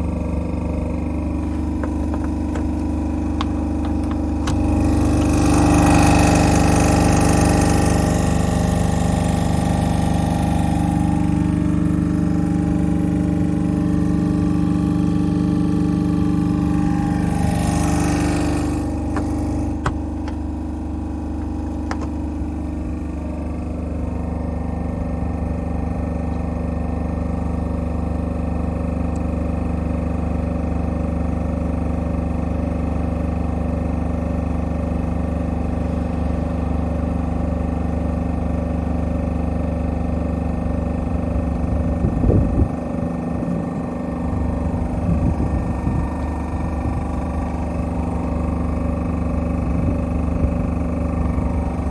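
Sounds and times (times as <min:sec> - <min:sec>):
piston compressor running: 0:00.0 - 0:51.9.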